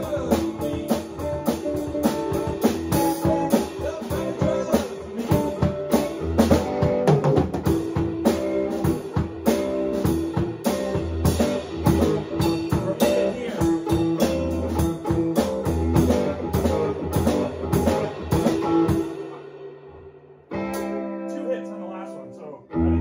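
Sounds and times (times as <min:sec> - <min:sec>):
drum kit with cymbals: 0:00.0 - 0:22.1
held guitar notes: 0:00.0 - 0:23.0.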